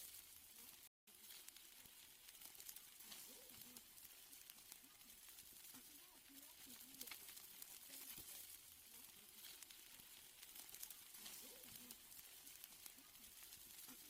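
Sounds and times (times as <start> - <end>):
steaks sizzling on a grill: 0.0 - 14.0.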